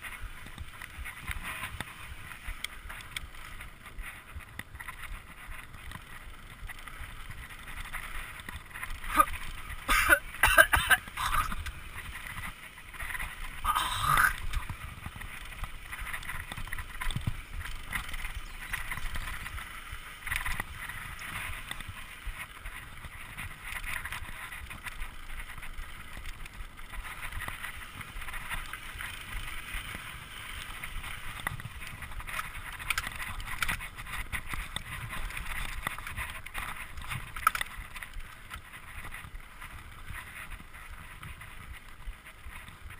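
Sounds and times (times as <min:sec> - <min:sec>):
bike rattling over bumps: 0:00.0 - 0:42.9
bike tyres rolling on dirt: 0:00.0 - 0:42.9.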